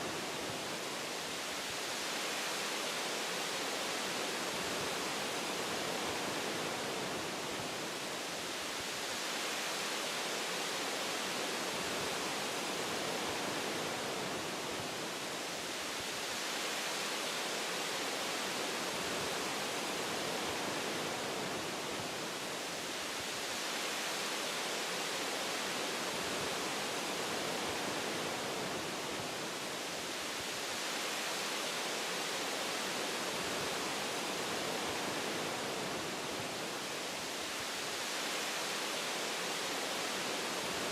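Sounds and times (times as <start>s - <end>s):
wind through tree branches: 0.0s - 40.9s.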